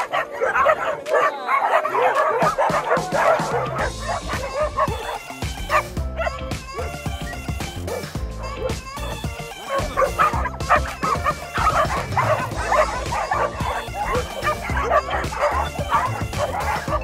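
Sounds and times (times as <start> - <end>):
background music: 0.0 - 17.0
dogs yipping and whining: 0.0 - 17.0.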